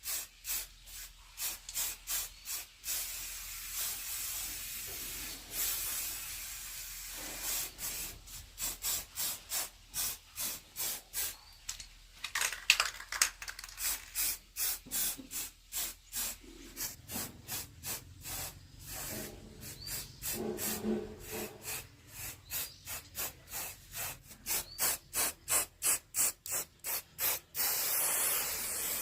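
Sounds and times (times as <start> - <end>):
spraying hiss: 0.0 - 11.6, 13.8 - 29.0.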